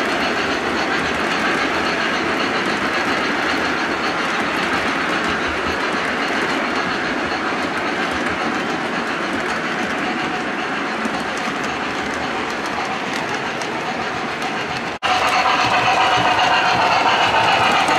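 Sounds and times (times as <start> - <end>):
model train wheels rumbling on rail: 0.0 - 17.9.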